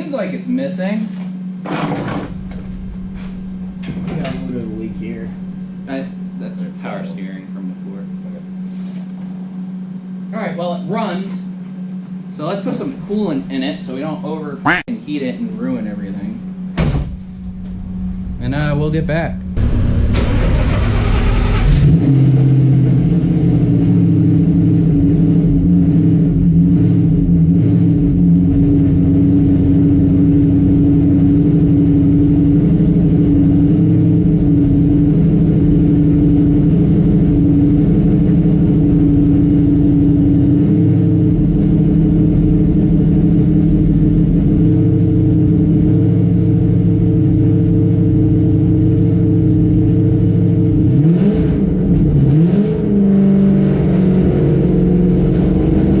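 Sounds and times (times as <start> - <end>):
supercharged engine idling: 0.0 - 56.0.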